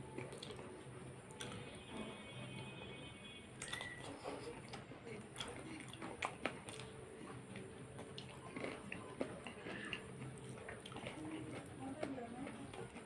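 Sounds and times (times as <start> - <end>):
chewing and mouth sounds: 0.0 - 2.0, 3.6 - 13.0.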